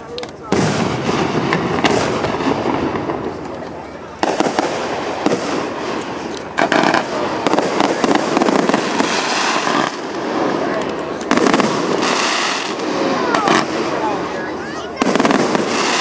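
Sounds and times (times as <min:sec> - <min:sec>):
fireworks bangs and bursts: 0:00.0 - 0:16.0.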